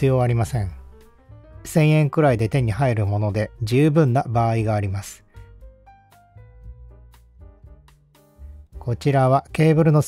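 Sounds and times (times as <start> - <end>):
quiet background music melody: 0.0 - 10.0.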